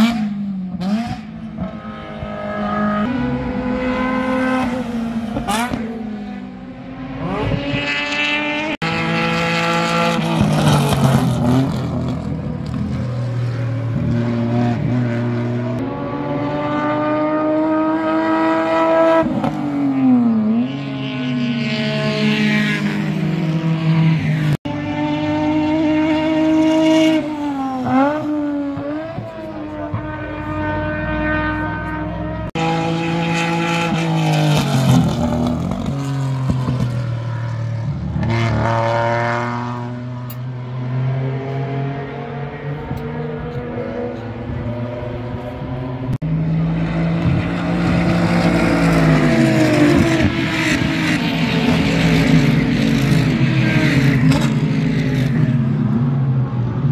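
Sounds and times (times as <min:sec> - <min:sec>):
race car engines passing: 0:00.0 - 0:56.9.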